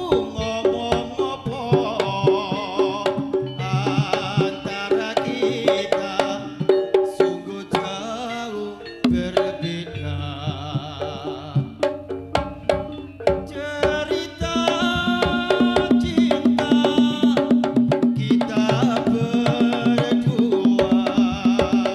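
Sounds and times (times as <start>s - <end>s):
rapid hand drum strokes: 0.0s - 8.0s, 9.0s - 21.9s
ringing metallophone notes: 0.0s - 21.9s.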